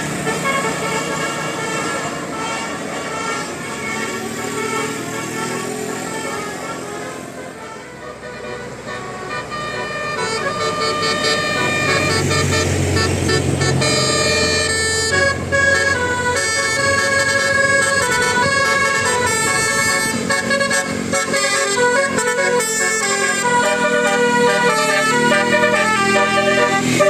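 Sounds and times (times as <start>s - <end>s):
multi-tone air horn playing a tune: 0.2s - 27.0s.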